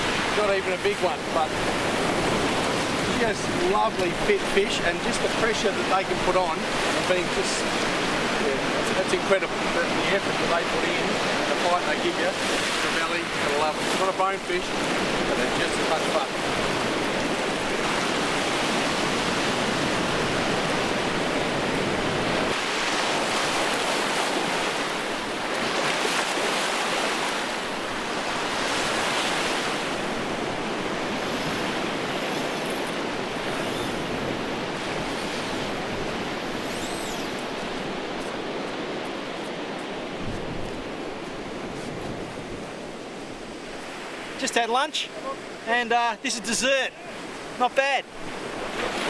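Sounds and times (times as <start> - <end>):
ocean waves breaking on beach: 0.0 - 49.0.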